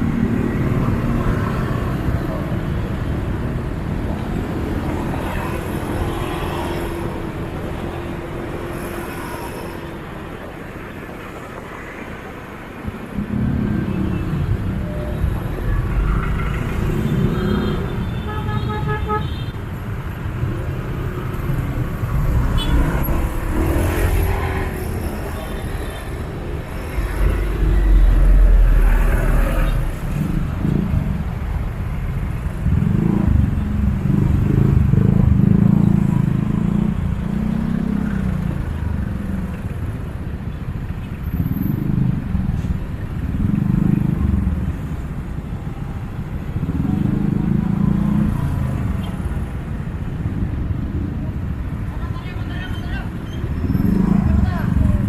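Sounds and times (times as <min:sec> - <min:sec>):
cars passing: 0:00.0 - 0:55.0
motorcycles passing: 0:00.0 - 0:55.0.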